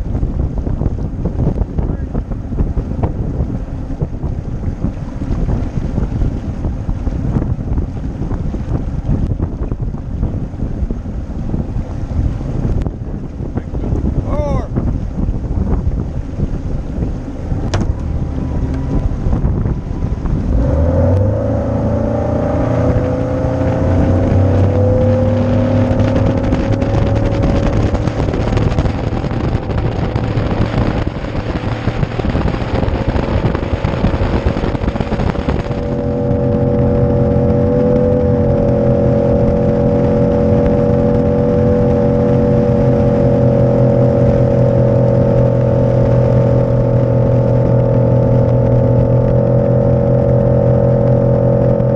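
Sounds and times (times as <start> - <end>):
outboard engine throttling up: 0.0 - 51.9
wind and water rushing: 0.0 - 51.9.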